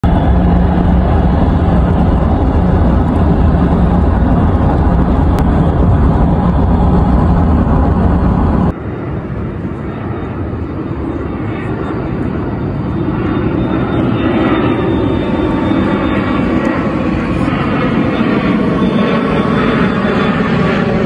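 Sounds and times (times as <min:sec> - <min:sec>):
jet airliner engines overhead: 0:00.0 - 0:21.0.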